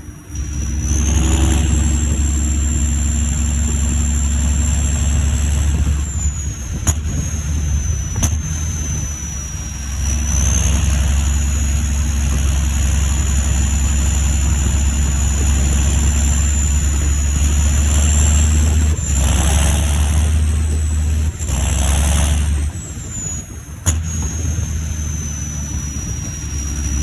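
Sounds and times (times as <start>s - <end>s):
high turbo whistle: 0.0s - 27.0s
tractor diesel engine drone: 0.0s - 27.0s.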